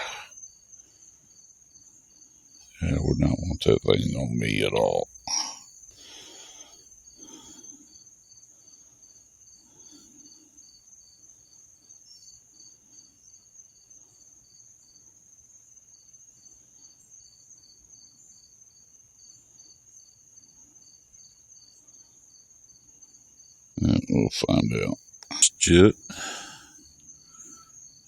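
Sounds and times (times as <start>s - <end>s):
insect high chirps: 0.0s - 28.0s
insect high-pitched trill: 0.0s - 28.0s.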